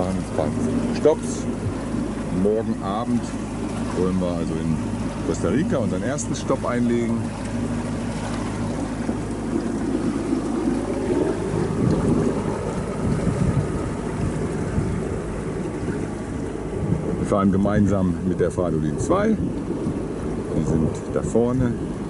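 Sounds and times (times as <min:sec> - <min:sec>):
boat engine running: 0:00.0 - 0:22.0
water along hull: 0:00.0 - 0:22.0
wind on microphone: 0:00.0 - 0:22.0.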